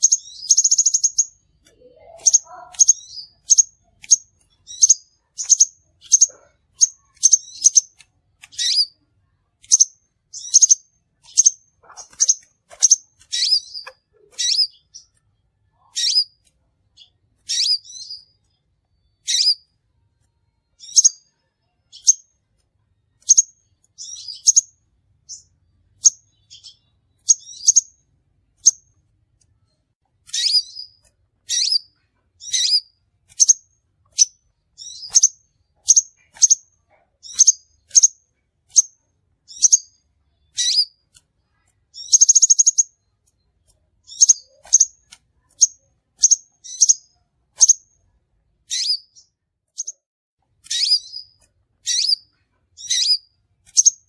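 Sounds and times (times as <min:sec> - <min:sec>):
bird chipping calls: 0:00.0 - 0:09.0, 0:09.6 - 0:15.2, 0:15.8 - 0:18.5, 0:19.1 - 0:19.7, 0:20.8 - 0:21.3, 0:23.2 - 0:28.0, 0:30.2 - 0:43.1, 0:44.0 - 0:47.9, 0:48.6 - 0:49.2, 0:50.6 - 0:54.0.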